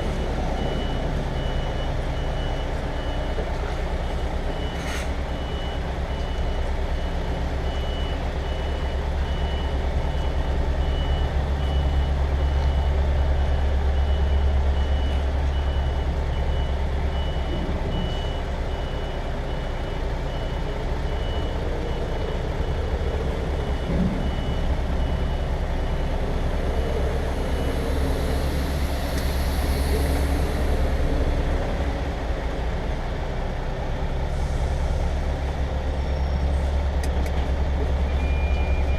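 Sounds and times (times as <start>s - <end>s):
reversing alarm beeping: 0.0s - 3.4s, 4.0s - 31.1s, 38.0s - 38.9s
lorry diesel engine running low: 0.0s - 38.9s.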